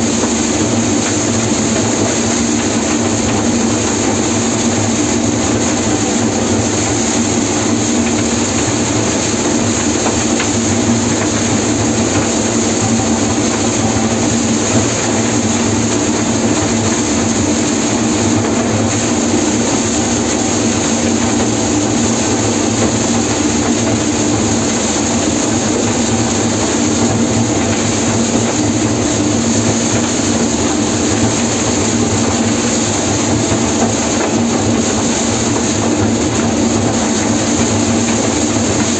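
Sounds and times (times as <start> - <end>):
combine harvester loud drone: 0.0 - 38.9.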